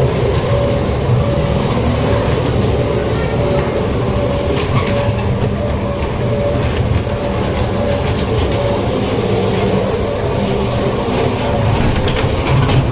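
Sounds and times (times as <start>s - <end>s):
ride car rumbling on track: 0.0s - 12.9s.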